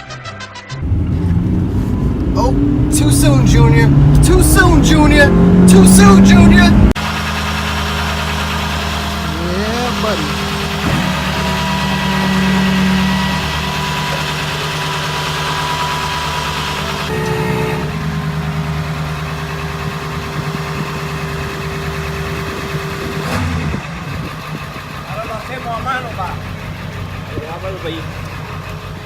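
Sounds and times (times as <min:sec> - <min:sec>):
vehicle engine humming: 0:00.0 - 0:29.0.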